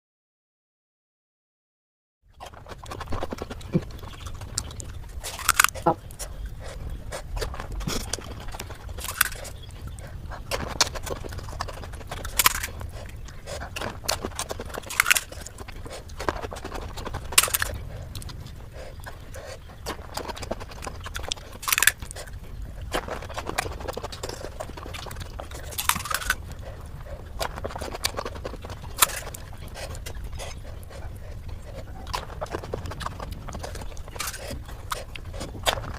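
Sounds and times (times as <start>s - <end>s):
crunchy food being chewed: 2.3s - 35.9s.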